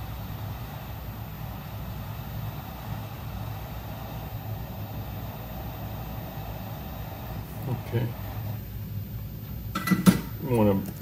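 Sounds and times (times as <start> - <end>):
hot air blower rushing: 0.0 - 9.0.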